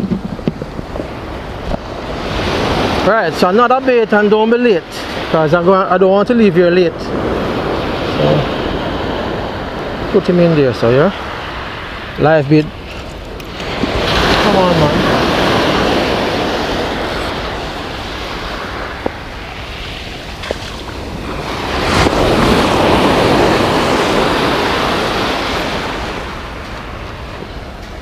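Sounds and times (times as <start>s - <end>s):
surf breaking on beach: 0.0s - 28.0s
wind buffeting microphone: 0.0s - 28.0s.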